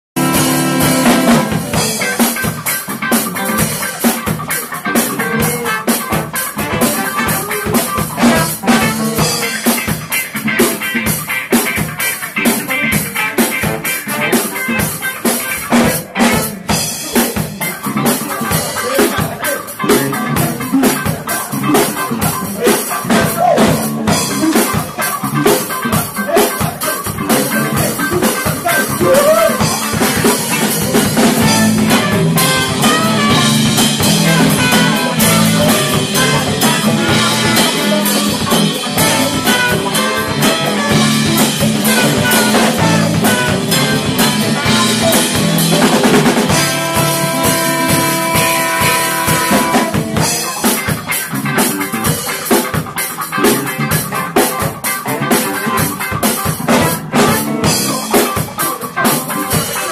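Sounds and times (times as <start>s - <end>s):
band playing live: 0.2s - 59.9s
drum kit beat: 0.2s - 59.9s.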